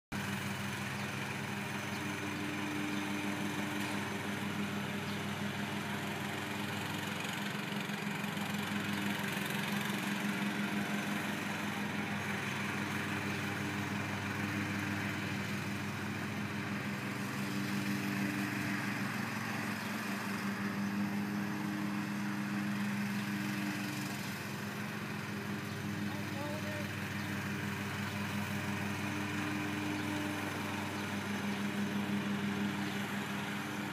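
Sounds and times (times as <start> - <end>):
riding lawn mower engine running: 0.1 - 33.9.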